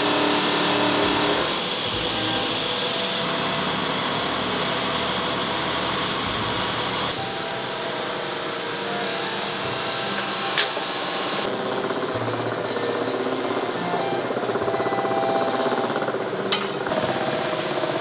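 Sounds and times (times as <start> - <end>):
grinding machinery whirring: 0.0 - 18.0.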